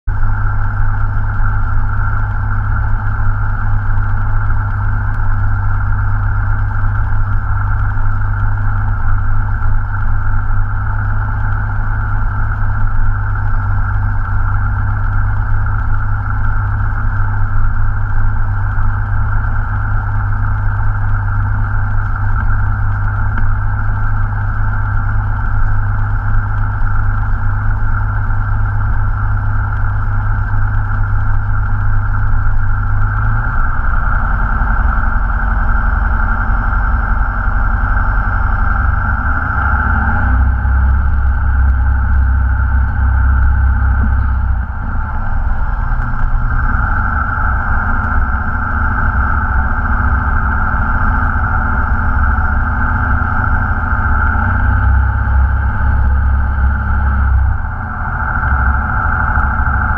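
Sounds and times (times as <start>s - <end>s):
airplane engine and propeller running: 0.1s - 59.9s.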